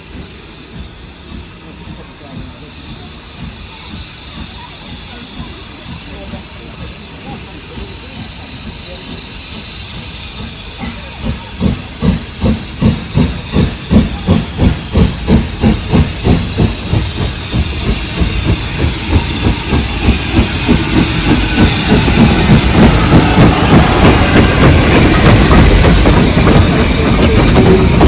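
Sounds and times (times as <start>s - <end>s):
steam hissing: 0.0s - 28.0s
steam locomotive exhaust chuffs: 0.0s - 28.0s.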